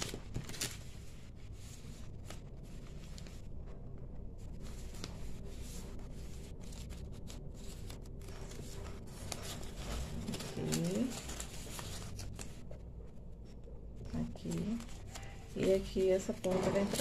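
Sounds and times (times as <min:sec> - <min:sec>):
low steady hum: 0:00.0 - 0:17.0
paper rustling: 0:00.0 - 0:17.0.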